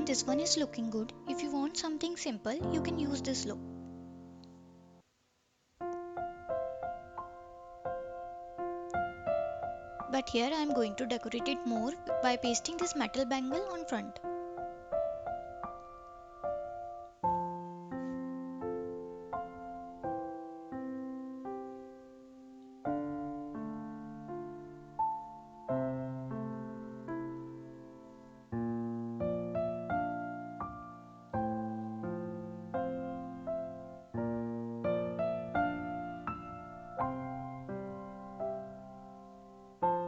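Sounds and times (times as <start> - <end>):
slow piano music: 0.0 - 5.0, 5.8 - 40.0.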